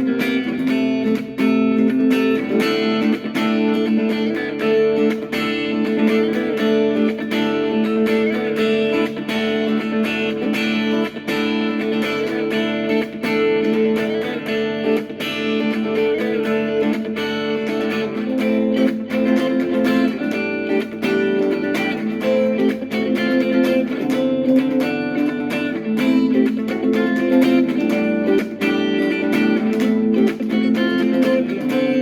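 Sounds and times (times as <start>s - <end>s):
plucked guitar music: 0.0s - 32.0s.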